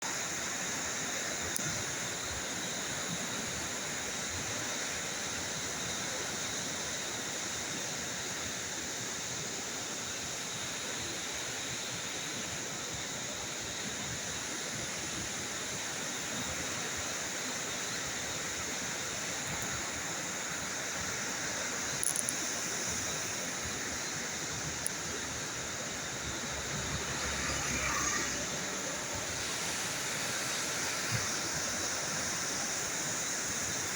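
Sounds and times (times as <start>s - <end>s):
fast-flowing water rushing: 0.0s - 33.9s.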